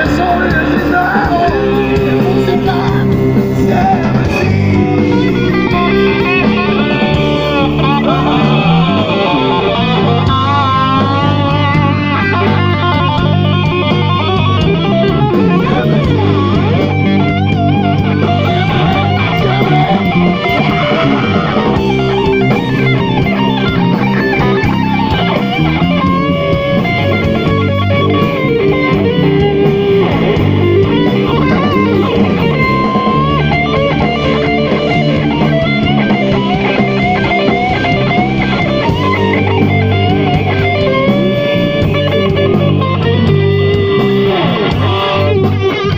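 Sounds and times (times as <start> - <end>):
bass guitar: 0.0 - 45.9
drum kit: 0.0 - 45.9
electric guitars: 0.0 - 45.9.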